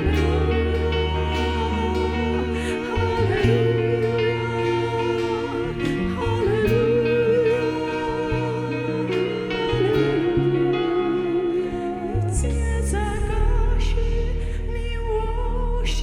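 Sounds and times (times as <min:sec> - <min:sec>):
slow worship band music: 0:00.0 - 0:16.0.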